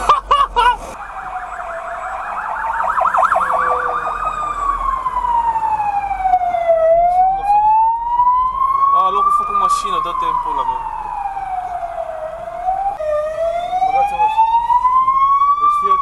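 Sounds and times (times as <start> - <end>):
emergency siren wailing: 0.9 - 16.0
fast yelping siren warble: 1.0 - 16.0.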